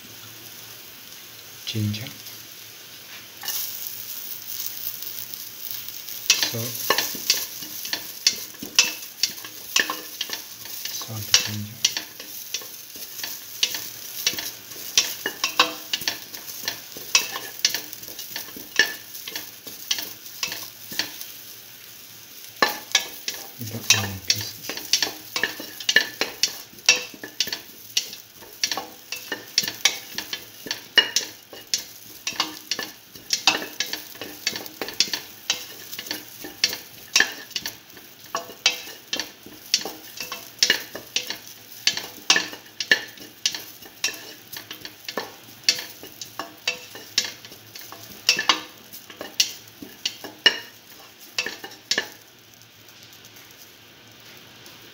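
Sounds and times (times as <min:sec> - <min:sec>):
food sizzling in oil: 0:00.0 - 0:54.9
spatula scraping and knocking pan: 0:06.2 - 0:21.3, 0:22.5 - 0:52.2.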